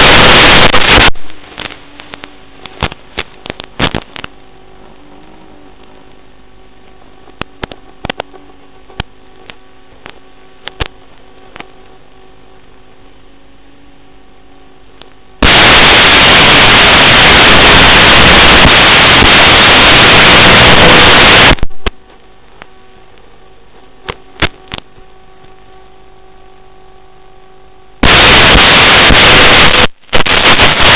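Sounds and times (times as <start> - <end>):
electrical crackles: 0.0 - 12.1, 15.0 - 25.8, 28.0 - 30.9
loud hissing static: 0.0 - 30.9
steady electrical hum: 0.0 - 30.9.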